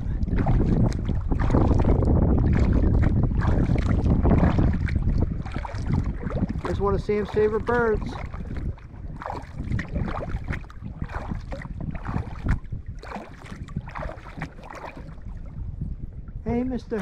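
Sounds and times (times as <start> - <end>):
paddle splashing in water: 0.0 - 15.6
wind rumbling on microphone: 0.0 - 17.0.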